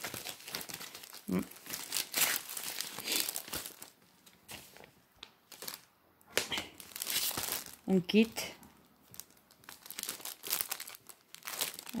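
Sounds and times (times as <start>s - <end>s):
wrapping paper crinkling: 0.0s - 8.2s, 9.0s - 12.0s.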